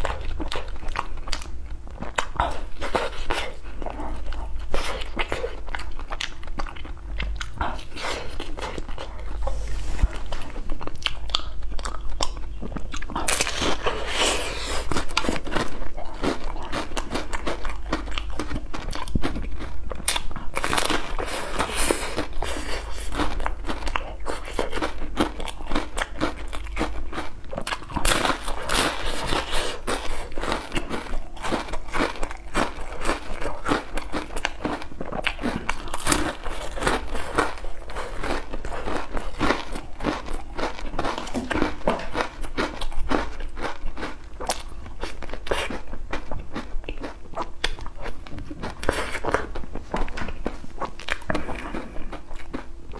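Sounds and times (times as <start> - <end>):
biting and chewing: 0.0 - 52.9.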